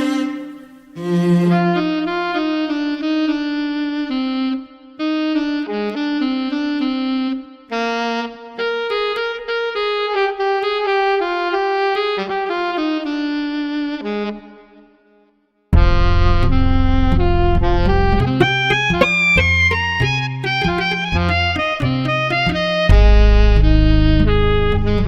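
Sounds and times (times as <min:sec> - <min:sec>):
saxophone playing jazz melody: 0:00.0 - 0:14.8, 0:15.8 - 0:25.0.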